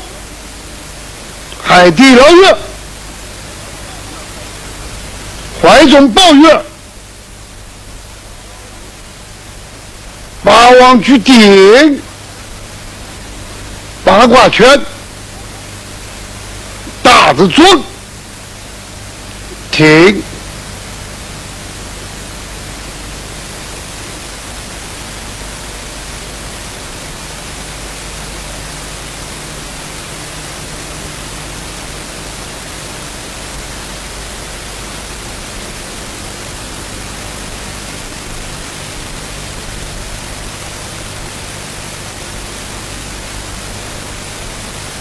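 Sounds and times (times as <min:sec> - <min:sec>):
low even hum: 0:00.0 - 0:45.0
steady hiss: 0:00.0 - 0:45.0.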